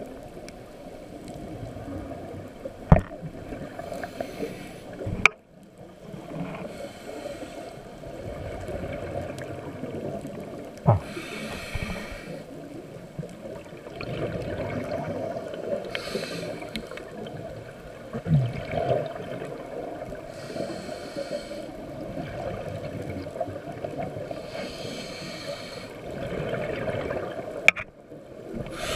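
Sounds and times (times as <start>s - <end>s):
muffled underwater rushing water: 0.0s - 28.9s
water gurgle: 0.0s - 28.9s
hissing water swell: 3.4s - 5.2s, 5.8s - 27.6s, 28.4s - 28.9s.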